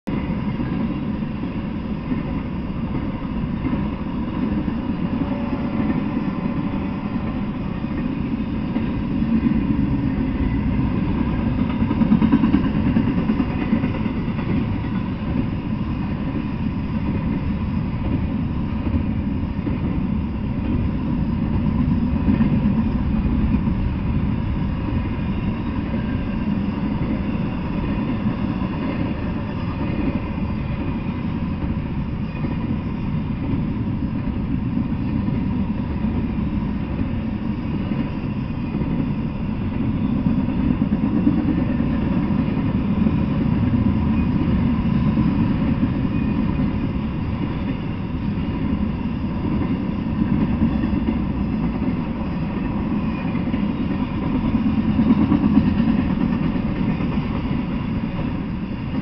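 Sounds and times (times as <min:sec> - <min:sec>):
freight train cars rolling past: 0:00.1 - 0:59.0.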